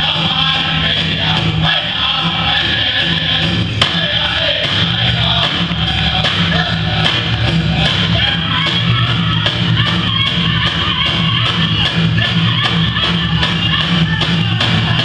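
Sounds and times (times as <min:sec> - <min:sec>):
big drum steady beat: 0:00.0 - 0:15.0
group of singers: 0:00.0 - 0:15.0.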